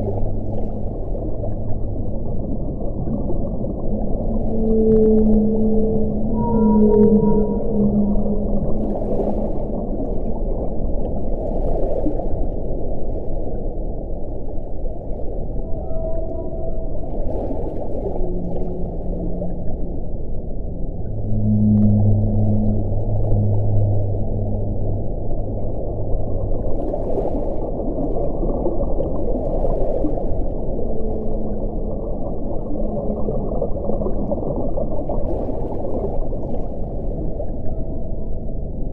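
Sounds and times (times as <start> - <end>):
faint low moaning tone: 0.0 - 11.2, 15.2 - 38.9
low rushing wind: 0.0 - 38.9.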